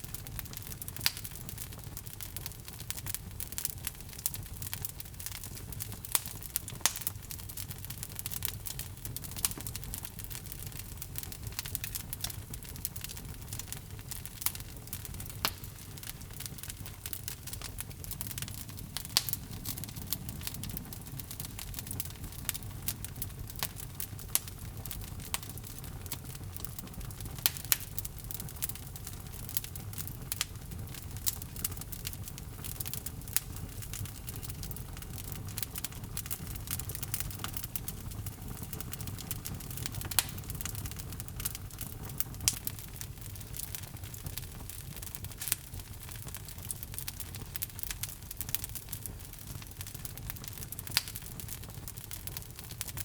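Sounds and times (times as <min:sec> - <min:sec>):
logs burning with crackles and pops: 0:00.0 - 0:53.0.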